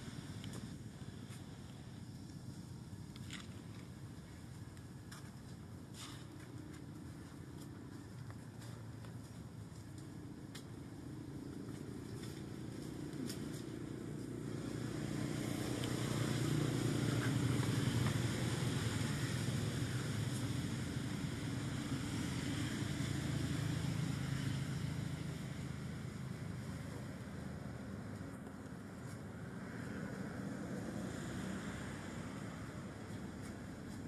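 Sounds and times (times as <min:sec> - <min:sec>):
engine drone of passing motor: 0:05.7 - 0:34.0.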